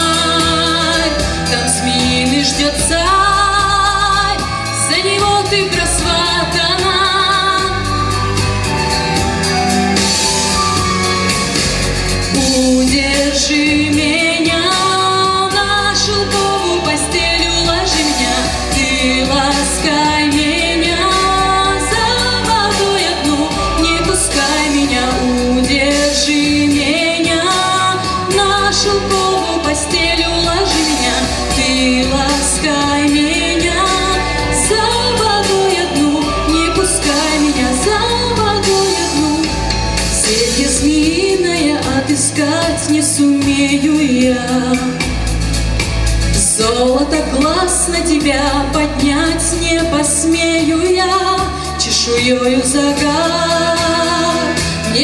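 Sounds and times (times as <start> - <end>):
woman singing into a microphone: 0.0 - 45.3, 46.3 - 55.0
pop backing track with beat: 0.0 - 55.0.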